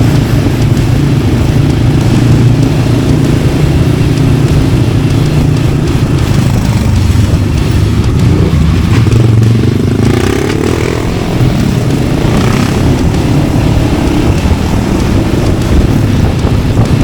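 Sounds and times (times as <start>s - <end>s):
motorcycle engine revving while riding: 0.0s - 17.0s.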